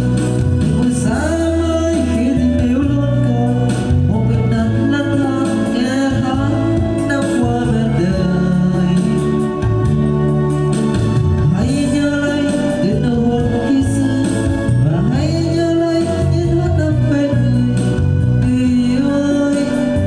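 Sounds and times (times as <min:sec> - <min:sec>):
karaoke band backing track: 0:00.0 - 0:20.0
person singing: 0:00.0 - 0:20.0.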